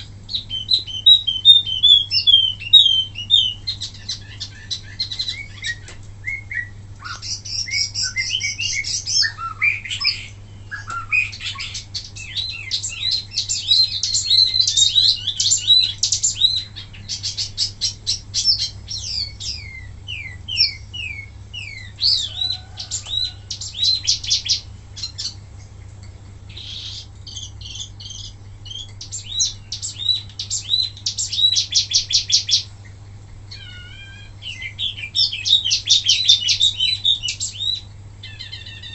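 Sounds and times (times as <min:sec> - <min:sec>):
songbird chirping and trilling: 0:00.0 - 0:38.9
steady low hum: 0:00.0 - 0:38.9.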